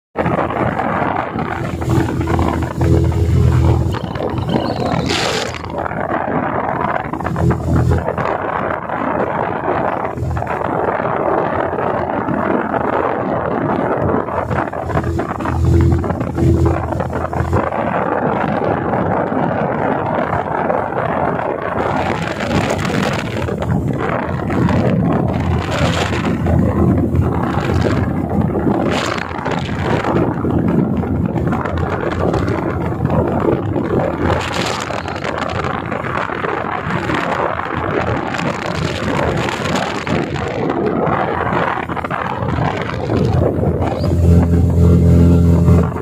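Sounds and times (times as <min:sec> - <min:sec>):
wind buffeting microphone: 0:00.1 - 0:46.0
outboard motor running: 0:00.2 - 0:46.0
water rushing past hull: 0:00.2 - 0:46.0.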